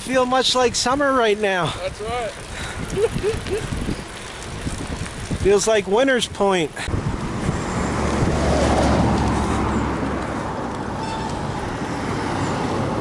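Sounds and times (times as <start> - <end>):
road noise: 0.0 - 13.0
wind rushing on microphone: 1.7 - 13.0.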